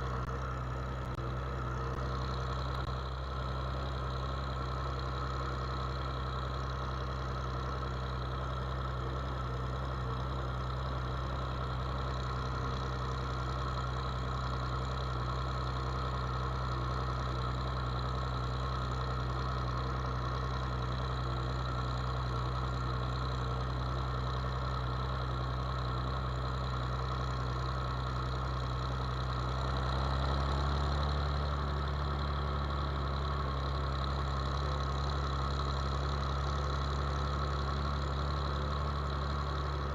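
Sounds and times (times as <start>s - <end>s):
farm machine engine humming: 0.0s - 39.9s.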